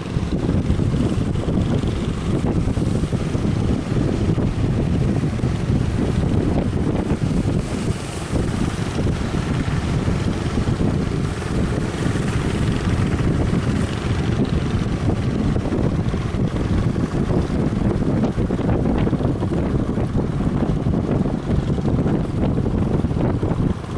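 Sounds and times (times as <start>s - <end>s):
low rumble of boat engines: 0.0s - 23.9s
wind buffeting microphone: 0.0s - 23.9s.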